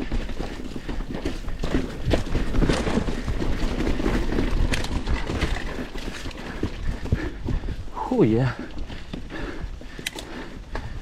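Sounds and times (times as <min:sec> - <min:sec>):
bike rattling over roots: 0:00.0 - 0:11.0
knobby tyres rumbling on dirt: 0:00.0 - 0:11.0.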